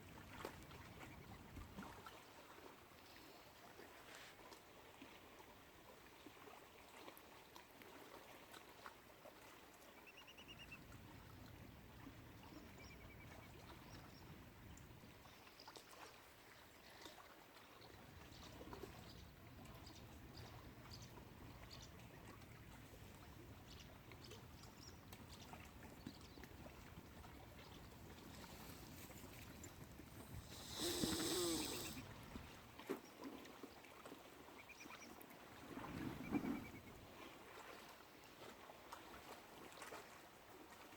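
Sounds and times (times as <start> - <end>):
water lapping and trickling: 0.0 - 40.9.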